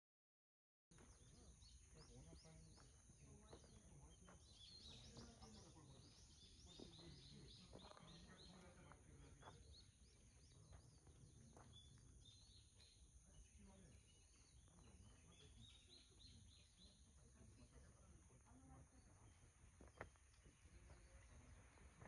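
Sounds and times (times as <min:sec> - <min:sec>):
small birds chirping: 0:00.9 - 0:22.0.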